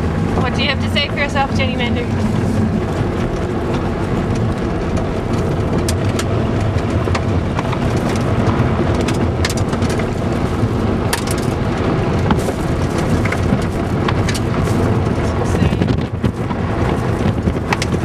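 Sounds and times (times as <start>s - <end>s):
car engine and road rumble: 0.0s - 18.0s
clicks and crackles: 2.6s - 18.0s.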